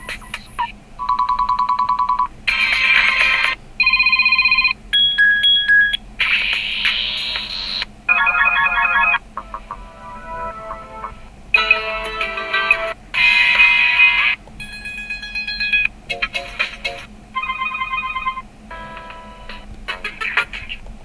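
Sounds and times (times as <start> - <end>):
phone ringtones: 0.0 - 6.0, 6.6 - 19.6.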